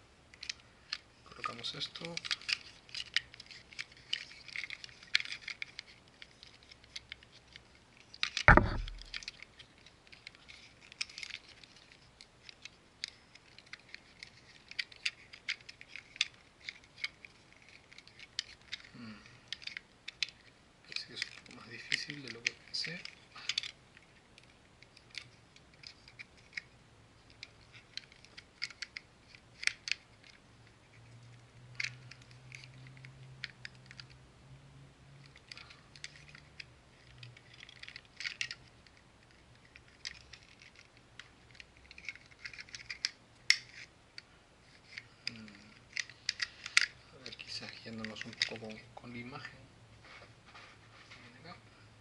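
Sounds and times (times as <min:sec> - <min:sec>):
plastic parts clicking and scraping: 0:00.3 - 0:34.2, 0:35.2 - 0:49.5.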